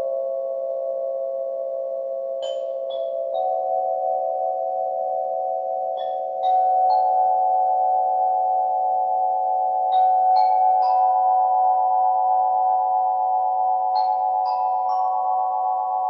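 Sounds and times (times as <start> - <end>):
singing bowls ringing: 0.0 - 16.0.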